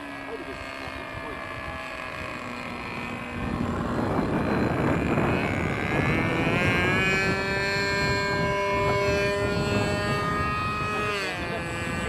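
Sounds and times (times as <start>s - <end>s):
model aircraft motor whining: 0.0s - 12.0s.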